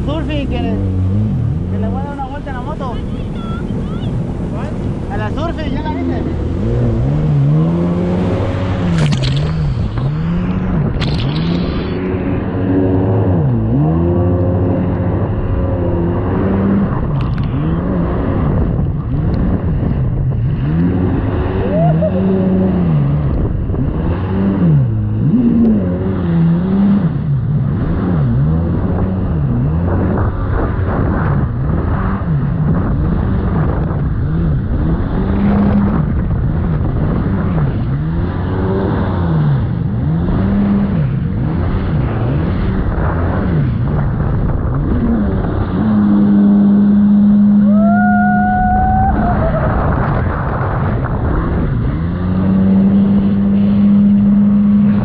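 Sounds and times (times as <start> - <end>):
jet ski engine running: 0.0 - 55.0
water rushing against hull: 0.0 - 55.0.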